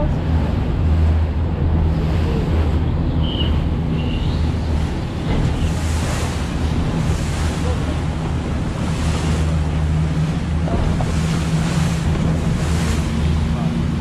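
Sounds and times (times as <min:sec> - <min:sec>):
motorboat engine drone: 0:00.0 - 0:14.0
water rushing past hull: 0:00.0 - 0:14.0
wind buffeting microphone: 0:00.0 - 0:14.0.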